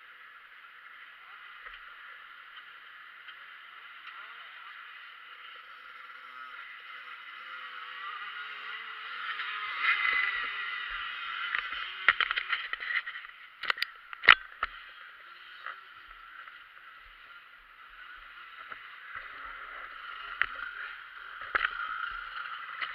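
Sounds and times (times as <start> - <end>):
distant motorbike engines droning: 0.0 - 22.9.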